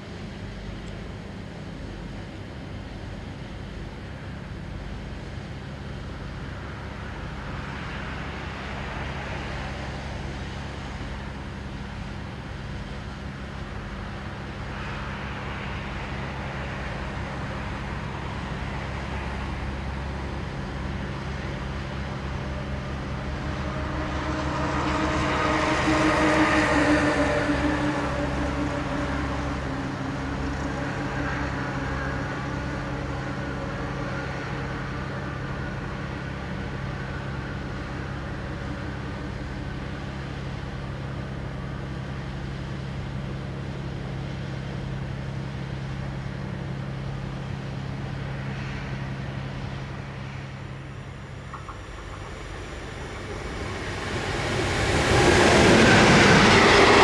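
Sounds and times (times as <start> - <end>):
ship diesel engine hum: 0.0 - 57.0.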